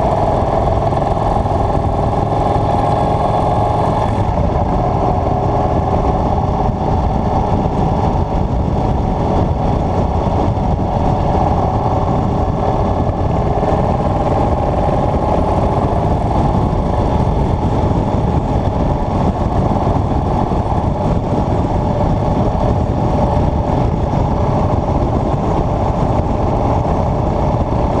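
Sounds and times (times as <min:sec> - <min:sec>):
motorcycle engine cruising: 0:00.0 - 0:28.0
wind and road noise: 0:00.0 - 0:28.0.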